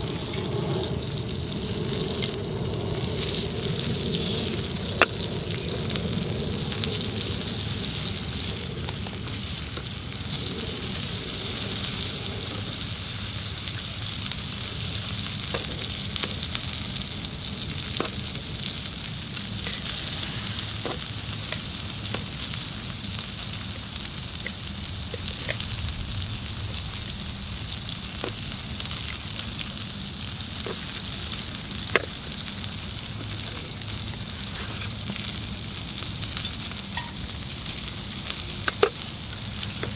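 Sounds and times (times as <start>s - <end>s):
meat sizzling on a hot plate: 0.0s - 39.9s.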